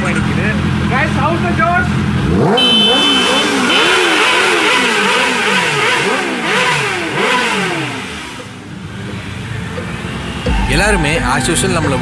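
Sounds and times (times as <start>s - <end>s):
motorcycles accelerating hard: 0.1s - 10.5s.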